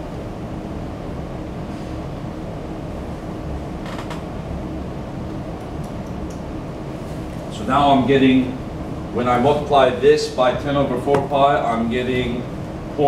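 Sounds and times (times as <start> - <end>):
ventilation hum and rumble: 0.0 - 13.0.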